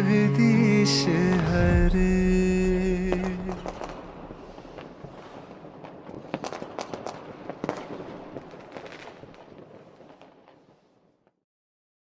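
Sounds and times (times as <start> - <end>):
fireworks crackling and popping: 1.4 - 11.4.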